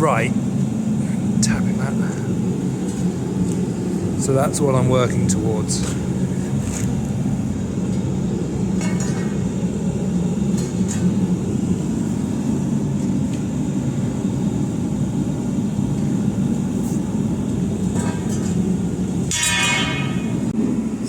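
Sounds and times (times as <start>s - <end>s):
gas forge burner roaring: 0.0s - 21.0s.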